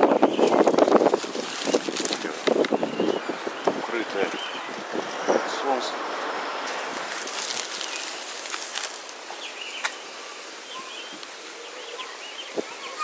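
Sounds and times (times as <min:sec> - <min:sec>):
small birds chirping: 0:00.0 - 0:13.0
steady background hiss: 0:01.4 - 0:13.0.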